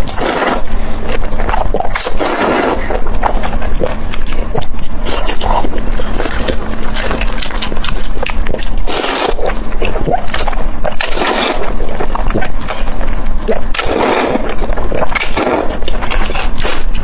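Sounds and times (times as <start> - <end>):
noodles slurped: 0.0 - 12.8, 13.4 - 17.0
wet chewing: 0.0 - 17.0.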